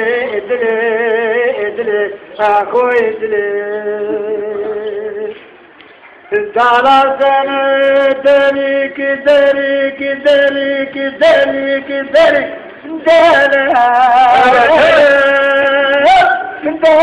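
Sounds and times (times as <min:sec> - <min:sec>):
man singing folk song: 0:00.0 - 0:05.4, 0:06.3 - 0:17.0.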